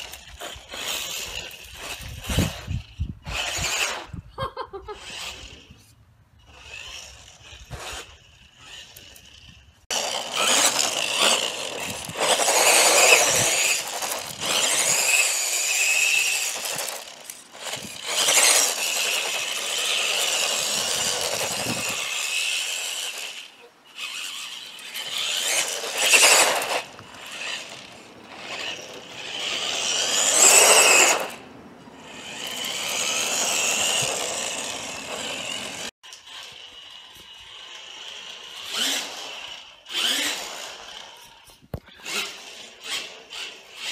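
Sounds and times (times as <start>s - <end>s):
tyres on gravel: 0.0s - 4.1s, 5.0s - 43.9s
electric rc car motor whine: 0.0s - 4.2s, 4.8s - 43.9s.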